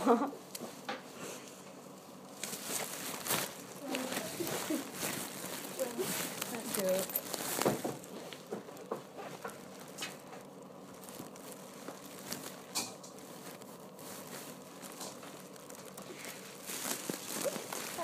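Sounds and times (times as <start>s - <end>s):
faint rustling and crinkling: 0.4s - 18.0s.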